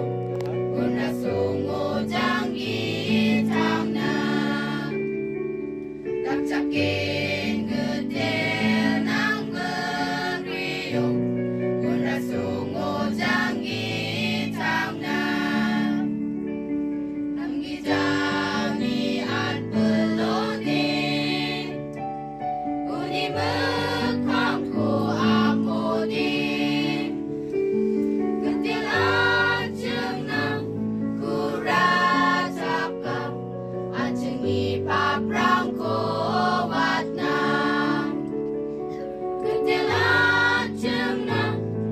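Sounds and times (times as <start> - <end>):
choir singing: 0.7 - 5.1, 6.2 - 16.1, 17.4 - 21.8, 22.9 - 27.3, 28.4 - 38.3, 39.4 - 41.9.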